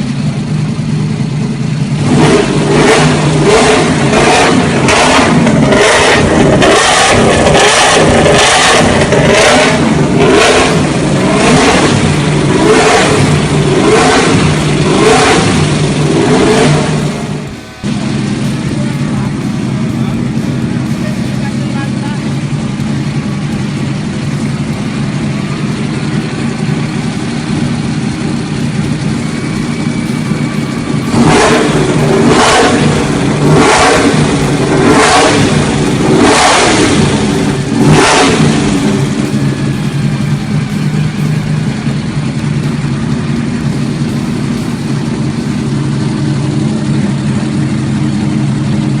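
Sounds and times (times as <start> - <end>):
engine idling: 0.0 - 49.0
engine revving sharply: 2.0 - 46.6.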